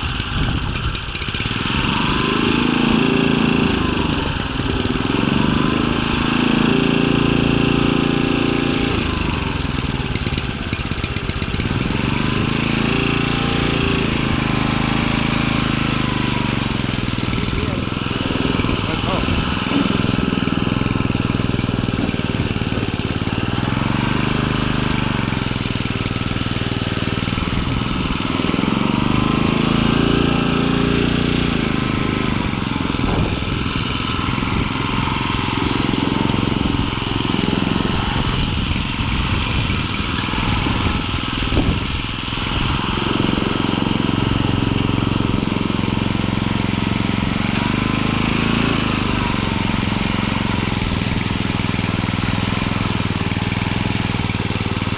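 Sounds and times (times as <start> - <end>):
garden tiller engine running: 0.0 - 54.9.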